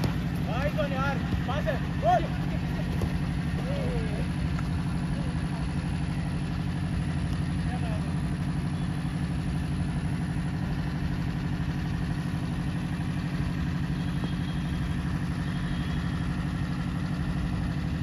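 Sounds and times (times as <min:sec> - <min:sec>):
low pulsing engine drone: 0:00.0 - 0:18.0.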